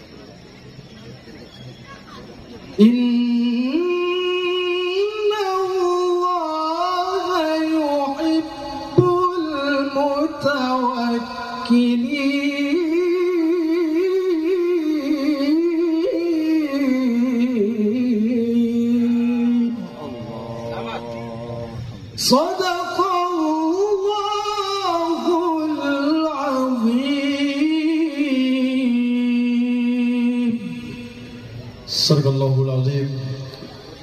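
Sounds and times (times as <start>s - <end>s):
man chanting melodically: 2.7s - 33.6s.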